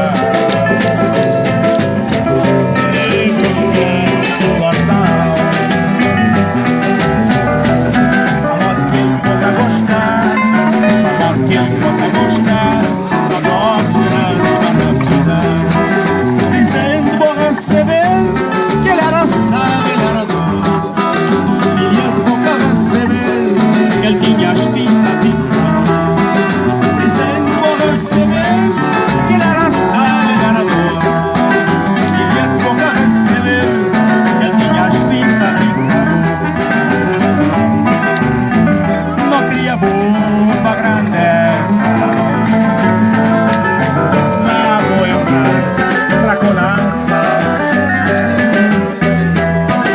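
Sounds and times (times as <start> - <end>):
guitars: 0.0 - 49.9
percussion: 0.0 - 49.9.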